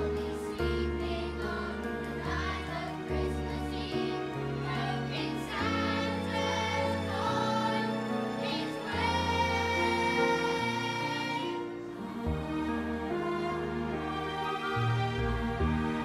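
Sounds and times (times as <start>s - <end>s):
children's choir singing: 0.0s - 16.0s
instrumental accompaniment with bass: 0.0s - 16.0s.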